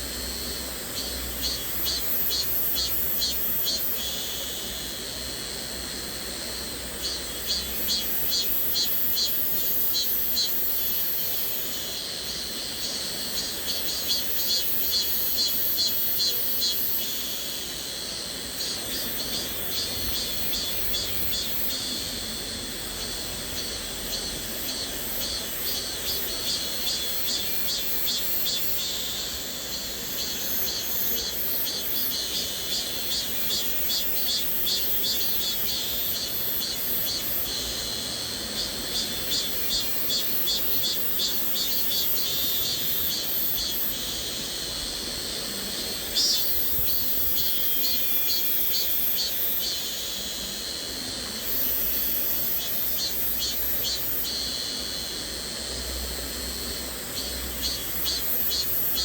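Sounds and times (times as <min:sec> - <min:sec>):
cicada chorus buzzing: 0:00.0 - 0:59.0
high-pitched hiss: 0:00.0 - 0:59.0.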